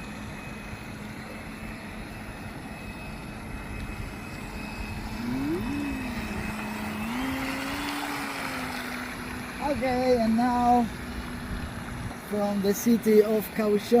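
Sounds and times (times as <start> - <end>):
model boat electric motor humming: 0.0 - 14.0.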